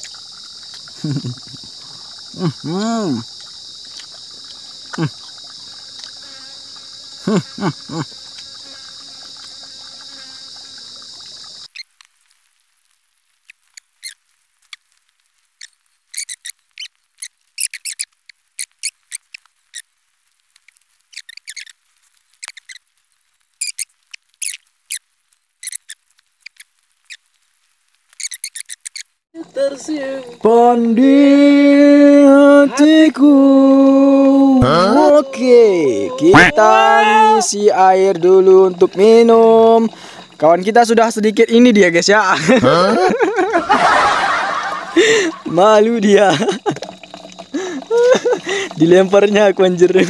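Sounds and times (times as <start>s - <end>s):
forest insects droning: 0.0s - 11.8s, 13.7s - 25.0s, 28.1s - 50.0s.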